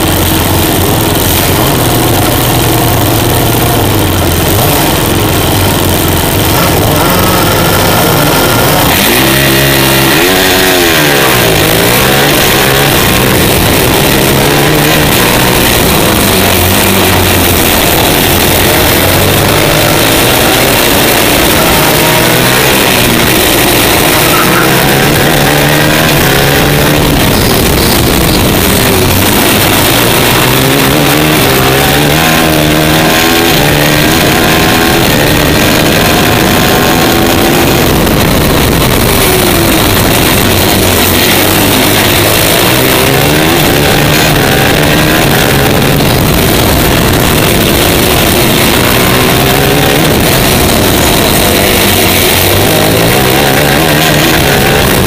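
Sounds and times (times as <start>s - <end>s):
kart engine revving: 0.0s - 55.0s
wind and road noise: 0.0s - 55.0s.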